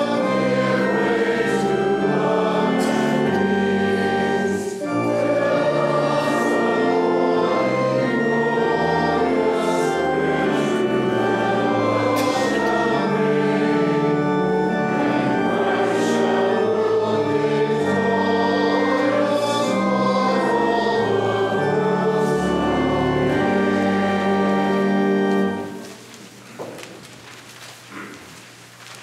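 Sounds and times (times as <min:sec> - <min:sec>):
choir singing a hymn: 0:00.0 - 0:25.8
instrumental accompaniment: 0:00.0 - 0:26.2.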